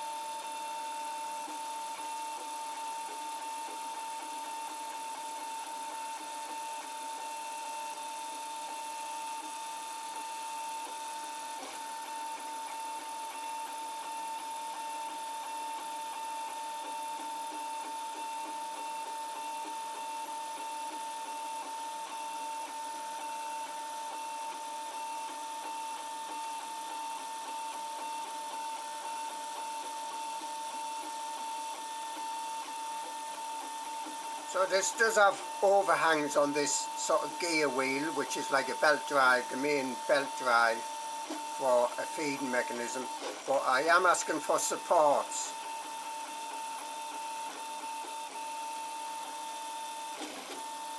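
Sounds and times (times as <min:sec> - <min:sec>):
printer stepper motors whining: 0:00.2 - 0:50.9.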